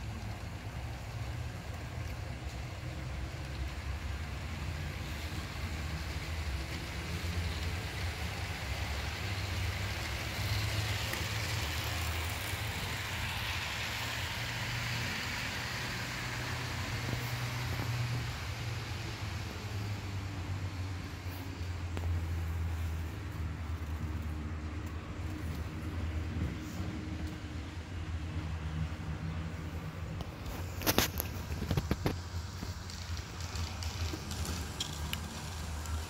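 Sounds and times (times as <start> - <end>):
model train wheels rumbling on rail: 0.0 - 36.0.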